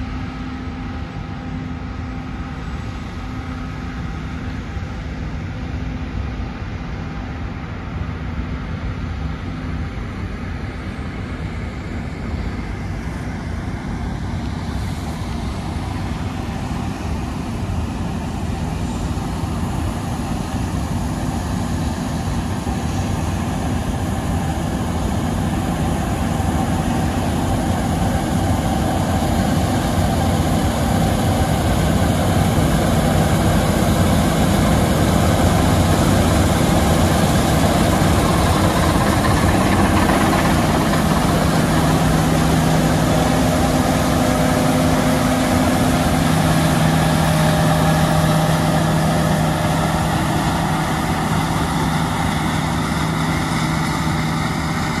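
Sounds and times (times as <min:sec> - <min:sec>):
combine harvester drone: 0:00.0 - 0:55.0
steady low hum: 0:00.0 - 0:55.0.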